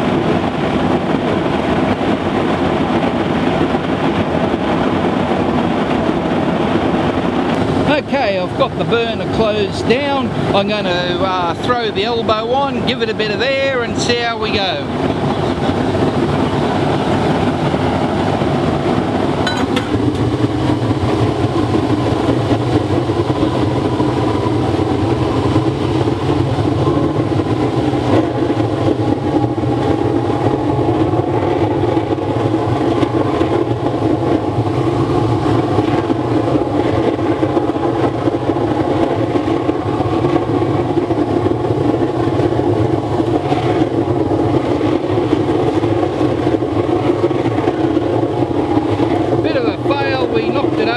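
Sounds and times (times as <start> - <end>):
oil burner roaring: 0.0 - 50.9.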